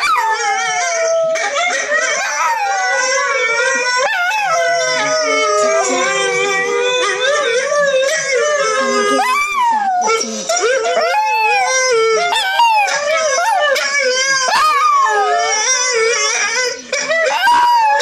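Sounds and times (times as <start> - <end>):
dogs howling: 0.0 - 18.0.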